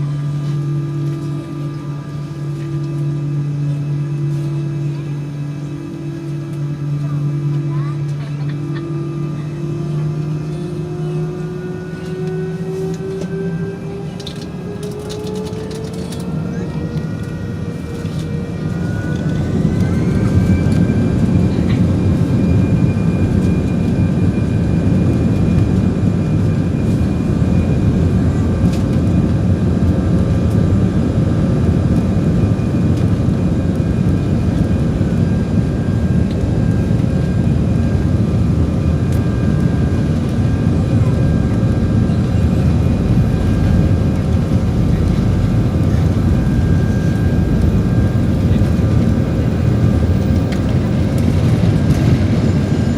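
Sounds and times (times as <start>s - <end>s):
jet engines roaring: 0.0s - 52.9s.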